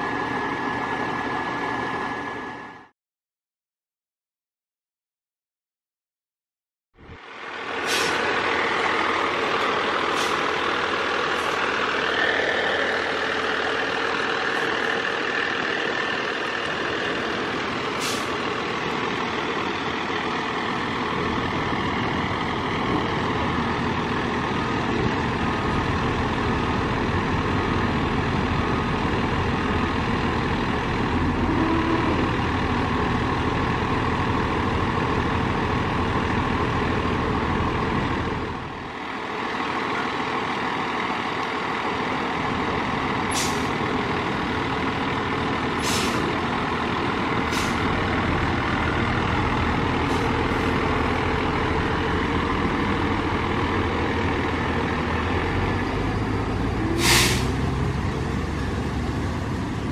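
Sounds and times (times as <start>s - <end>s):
diesel engine running: 0.0s - 2.9s, 7.0s - 59.9s.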